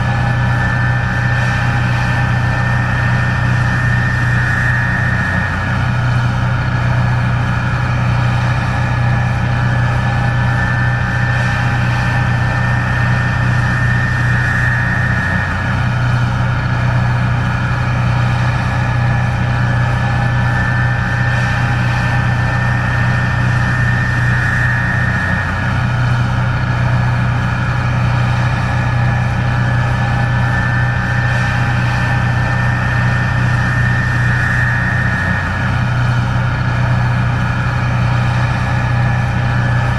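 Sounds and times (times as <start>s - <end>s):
combine engine drone: 0.0s - 39.9s
high machinery whine: 0.0s - 39.9s.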